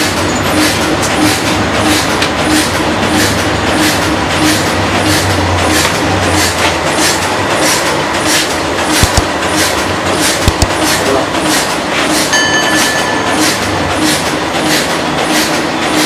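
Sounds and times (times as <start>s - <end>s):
printer clacking: 0.0s - 16.0s
printer running: 0.0s - 16.0s.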